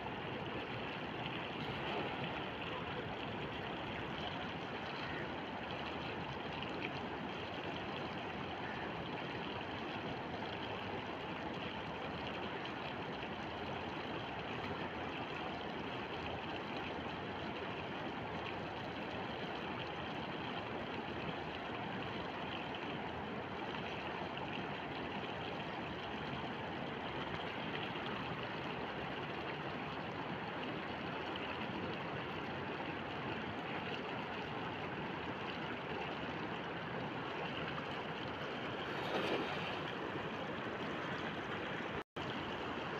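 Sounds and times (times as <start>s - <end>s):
river running over stones: 0.0s - 42.9s.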